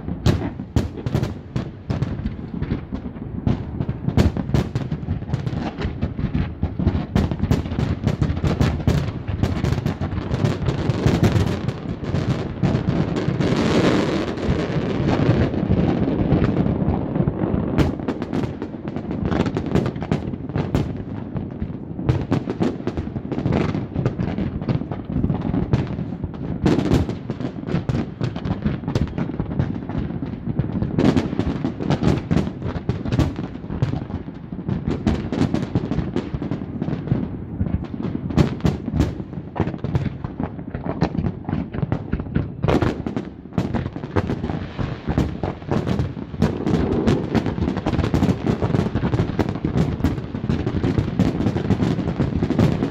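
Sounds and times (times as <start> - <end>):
fireworks booming and crackling: 0.0 - 52.9.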